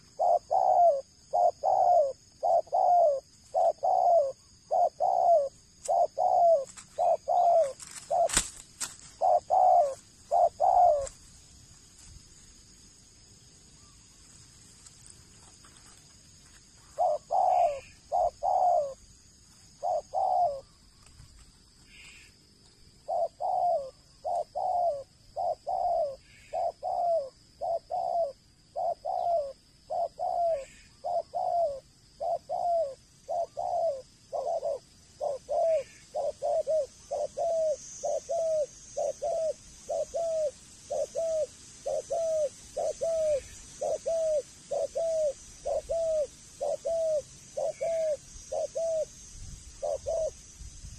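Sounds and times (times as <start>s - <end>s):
dove cooing: 0.0s - 11.3s, 16.8s - 20.8s, 23.0s - 49.2s, 49.8s - 50.4s.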